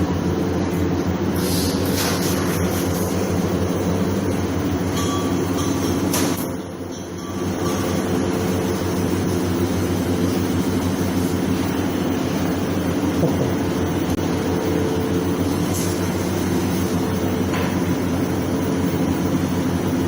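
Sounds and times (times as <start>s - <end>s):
workshop machinery drone: 0.0s - 20.0s.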